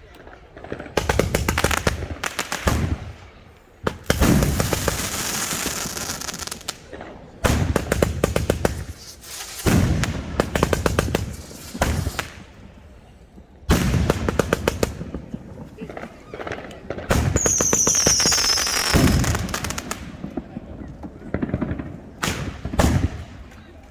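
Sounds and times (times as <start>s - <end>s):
fireworks firing and bursting: 0.0s - 23.9s.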